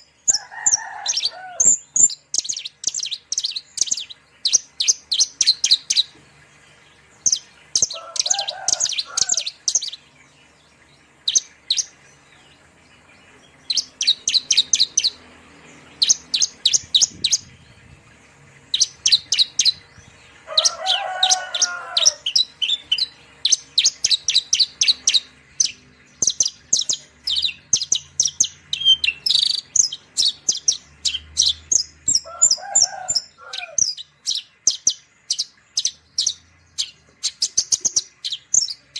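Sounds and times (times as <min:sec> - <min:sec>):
bird rapid high chirps: 0:00.0 - 0:38.9.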